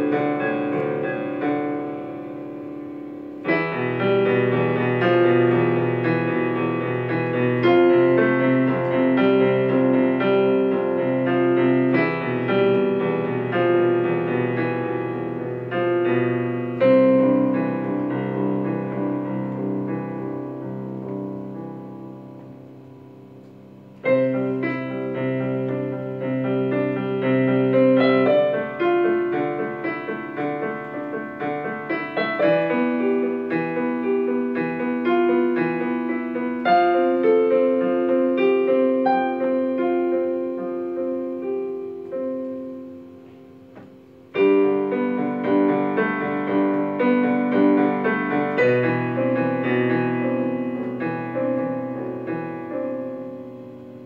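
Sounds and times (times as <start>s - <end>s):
solo piano: 0.0s - 54.0s.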